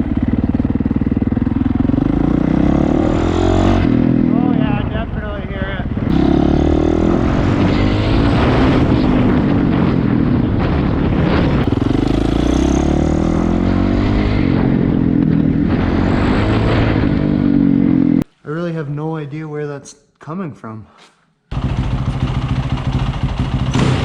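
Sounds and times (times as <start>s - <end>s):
motorcycle engine revving: 0.0s - 18.2s, 21.5s - 24.0s.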